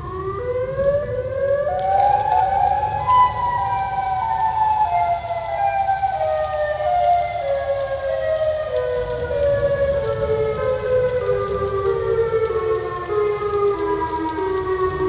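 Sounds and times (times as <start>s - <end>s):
warning sirens wailing: 0.0s - 15.0s.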